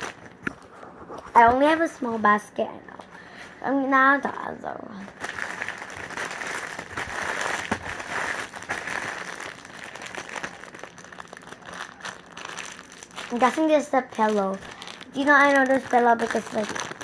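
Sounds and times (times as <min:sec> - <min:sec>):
rustling and crinkling of toys: 0:00.0 - 0:17.0.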